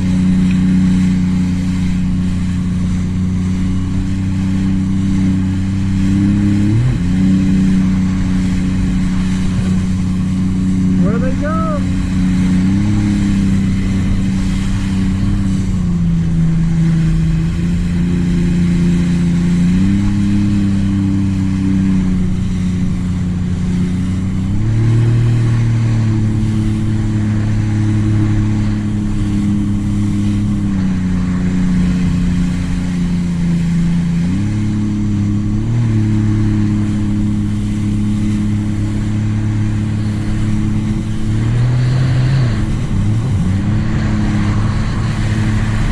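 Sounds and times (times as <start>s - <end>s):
hiss of wind and water: 0.0s - 45.9s
personal watercraft engine: 0.0s - 45.9s.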